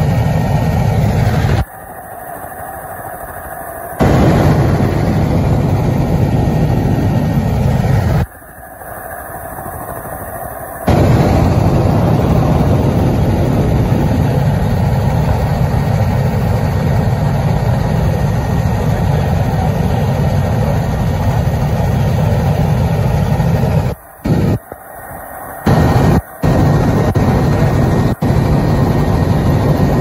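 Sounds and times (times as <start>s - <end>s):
helicopter rotor and engine rumble: 0.0s - 30.0s.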